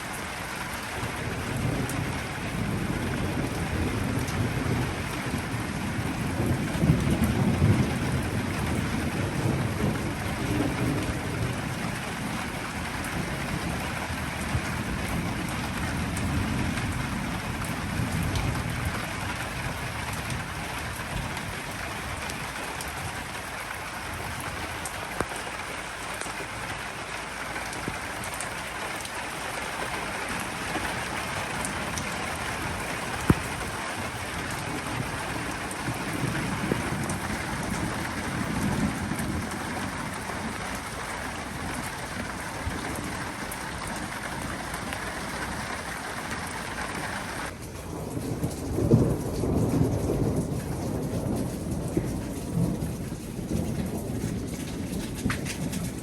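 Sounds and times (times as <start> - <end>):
low rolling thunder: 0.0 - 56.0
steady rain falling: 0.0 - 56.0.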